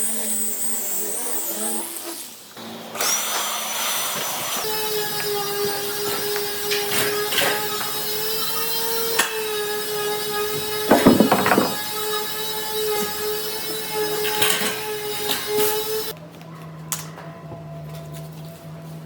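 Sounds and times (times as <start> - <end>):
power tool whining on wood: 0.0 - 16.2.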